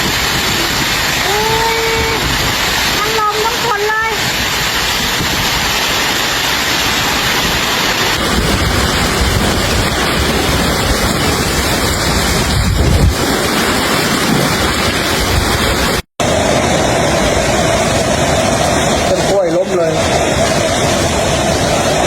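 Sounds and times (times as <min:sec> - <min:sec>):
wind and rain roaring: 0:00.0 - 0:22.0
wind gusts buffeting microphone: 0:00.0 - 0:22.0.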